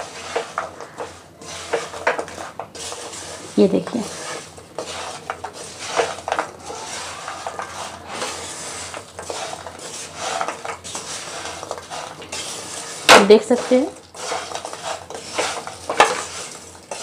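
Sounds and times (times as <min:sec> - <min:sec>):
wooden spatula scraping a pan: 0:00.0 - 0:17.0.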